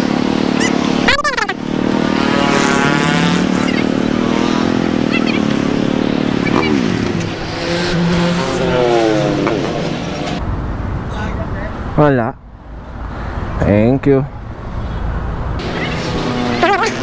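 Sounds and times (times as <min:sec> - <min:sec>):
car engines: 0:00.0 - 0:17.0
motorcycle engines: 0:00.0 - 0:17.0.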